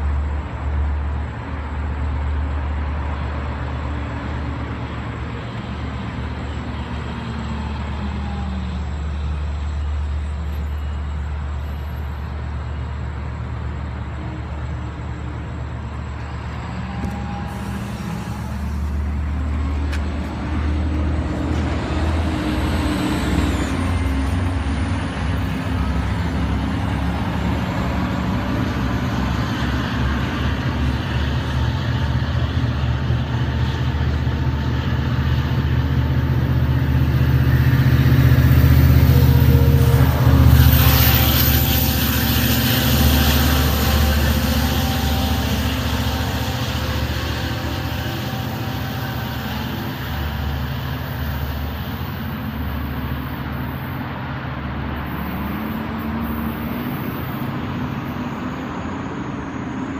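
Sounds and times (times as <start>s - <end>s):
diesel train engine drone: 0.0s - 59.9s
rumble of train coaches: 0.0s - 59.9s.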